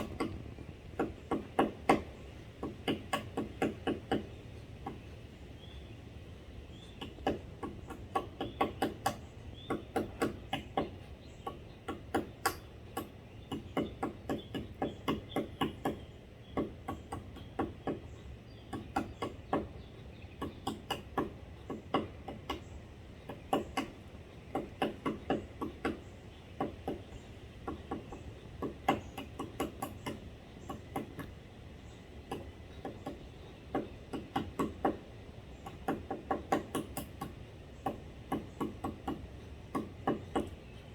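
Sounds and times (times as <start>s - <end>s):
woodpeckers tapping on wood: 0.0s - 40.9s.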